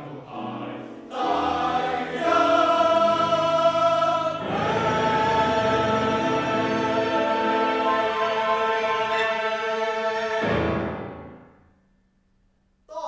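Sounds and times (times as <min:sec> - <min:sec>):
choir singing held chords: 0:00.0 - 0:11.4.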